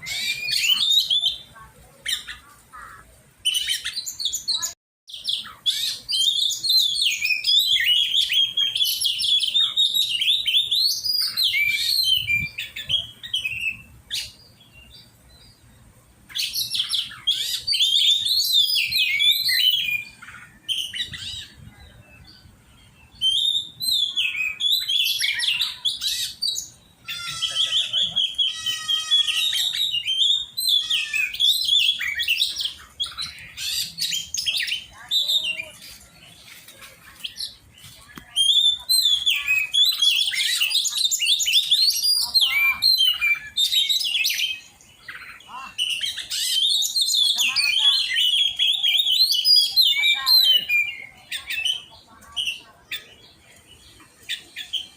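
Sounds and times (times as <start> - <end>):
magpie-robin singing: 0.0 - 54.9.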